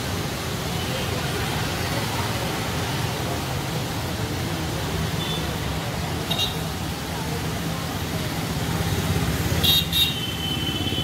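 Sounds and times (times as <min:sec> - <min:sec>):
motorbikes and cars passing: 0:00.0 - 0:11.0
tyres hissing on wet road: 0:00.0 - 0:11.0.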